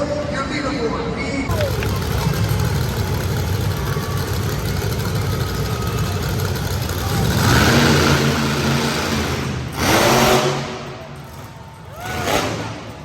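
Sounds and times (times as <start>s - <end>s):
monster truck engine revving: 1.5s - 13.0s.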